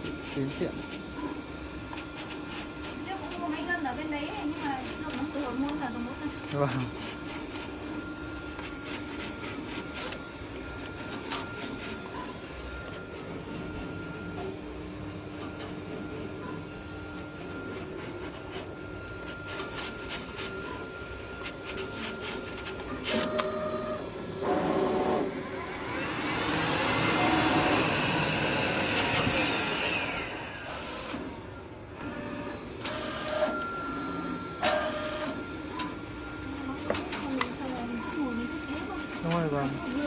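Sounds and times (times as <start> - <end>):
plotter motor whine: 0.0 - 40.0.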